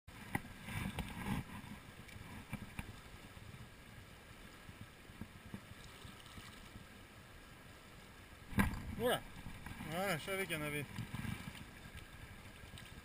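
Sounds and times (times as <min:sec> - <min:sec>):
mountain stream rushing over stones: 0:00.1 - 0:13.0.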